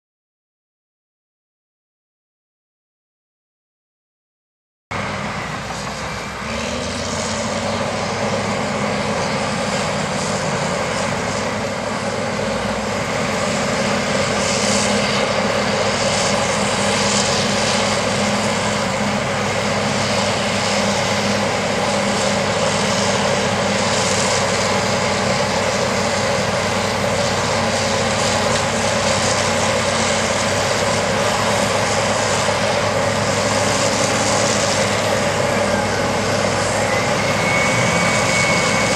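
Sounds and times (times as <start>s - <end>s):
heavy diesel engines droning: 4.9s - 38.9s.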